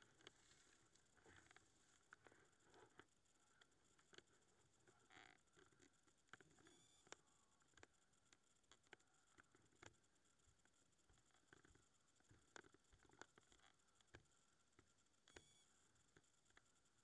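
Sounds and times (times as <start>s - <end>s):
faint small clicks and taps: 0.0s - 17.0s.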